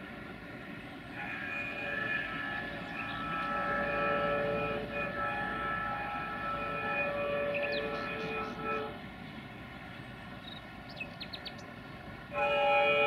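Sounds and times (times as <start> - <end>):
diesel locomotive horn blast: 0.0 - 10.4, 12.2 - 13.0.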